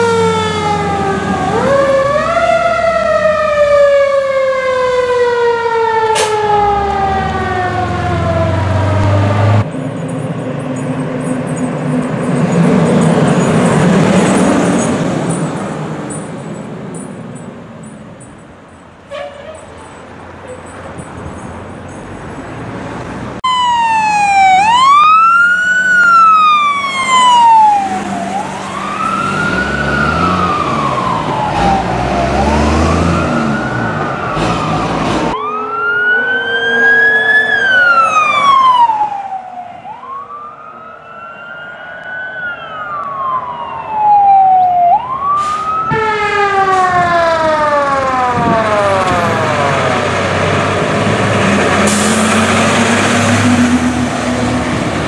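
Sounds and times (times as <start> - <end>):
fire truck sirens wailing: 0.0 - 55.0.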